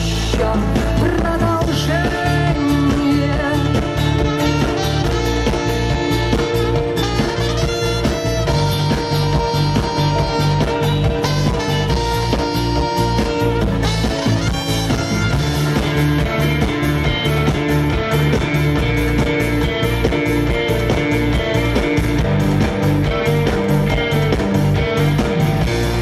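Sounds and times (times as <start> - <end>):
live rock band instrumental: 0.0 - 26.0.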